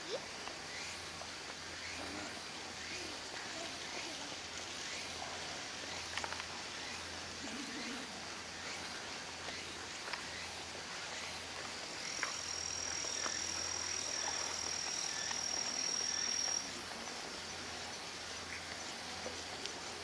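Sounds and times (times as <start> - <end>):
high-pitched insect call: 0.0 - 20.0
outdoor background noise: 0.0 - 20.0.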